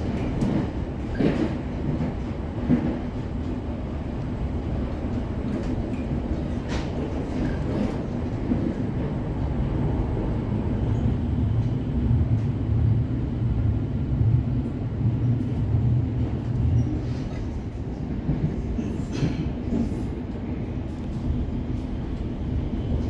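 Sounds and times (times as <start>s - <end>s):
electric train rumble: 0.0s - 23.0s.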